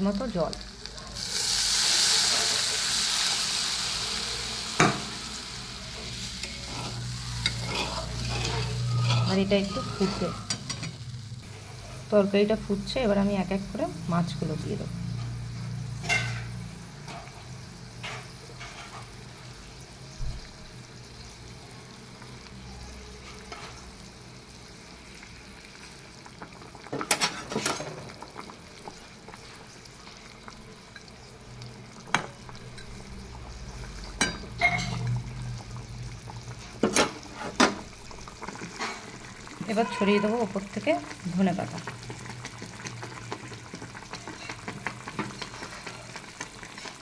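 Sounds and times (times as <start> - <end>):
curry simmering and sizzling: 0.0 - 47.0.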